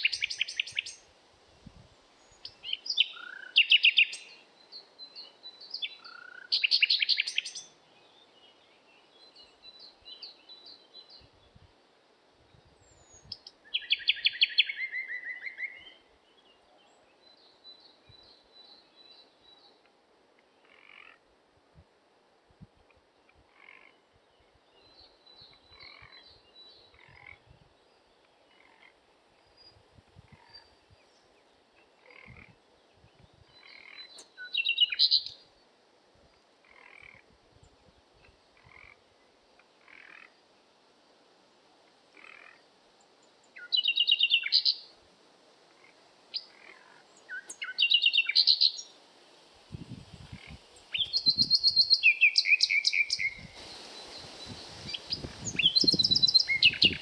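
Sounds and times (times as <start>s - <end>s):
songbird chirps and trills: 0.0s - 1.1s, 1.7s - 11.8s, 12.4s - 21.2s, 22.6s - 40.8s, 41.9s - 45.0s, 45.7s - 57.0s
background hiss: 0.0s - 57.0s.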